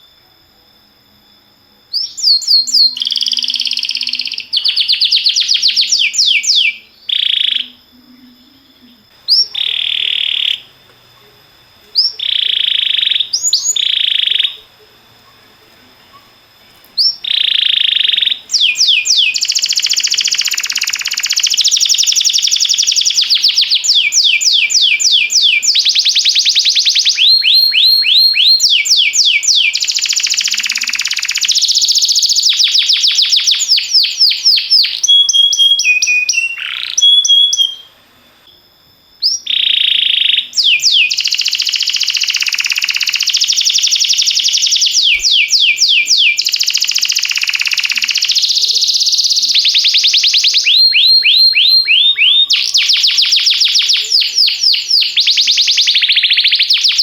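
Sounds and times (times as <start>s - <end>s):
canary singing trills: 1.1s - 38.0s, 39.2s - 57.0s.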